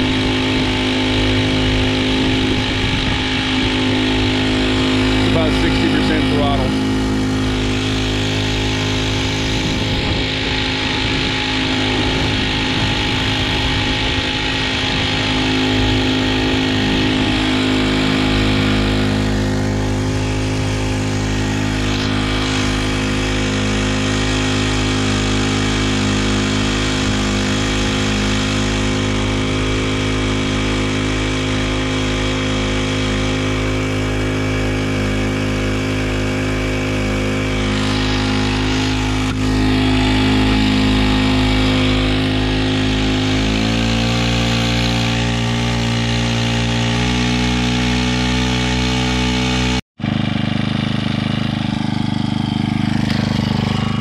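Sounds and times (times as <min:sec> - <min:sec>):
small four-stroke engine running: 0:00.0 - 0:54.0.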